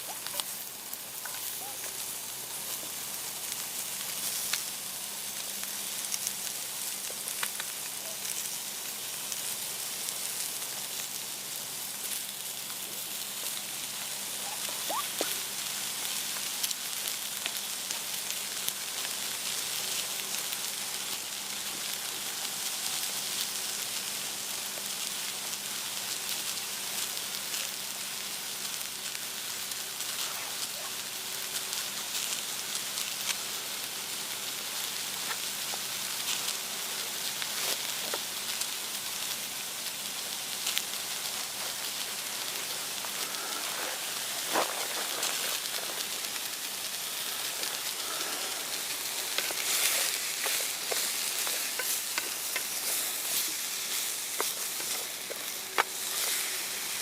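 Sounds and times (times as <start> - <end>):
crackles and pops: 0.0 - 57.0
steak sizzling in a pan: 0.0 - 57.0.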